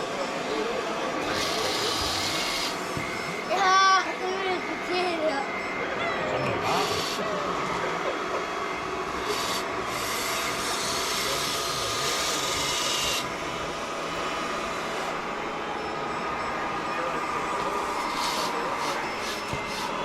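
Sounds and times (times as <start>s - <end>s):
high whine of hydraulic pump: 0.0s - 20.0s.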